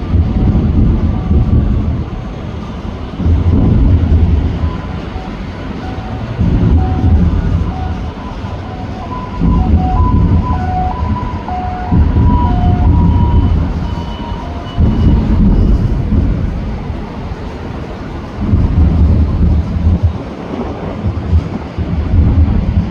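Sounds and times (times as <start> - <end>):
fireworks booming: 0.0 - 22.9.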